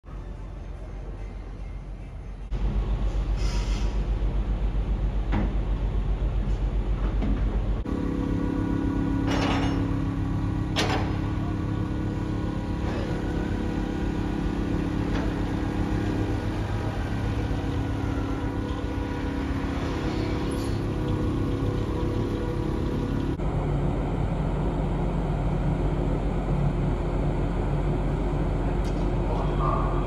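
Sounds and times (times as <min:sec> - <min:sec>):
forklift engine running: 0:04.1 - 0:30.0.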